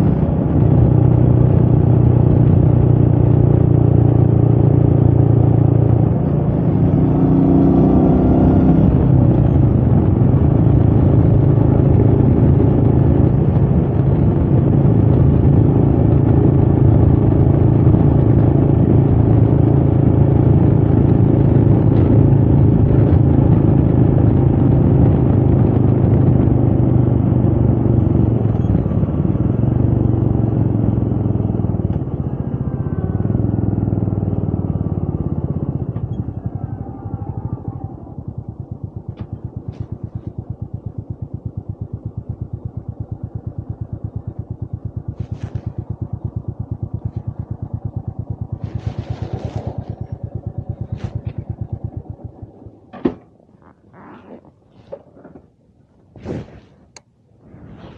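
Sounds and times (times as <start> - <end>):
motorcycle engine running: 0.0 - 55.6.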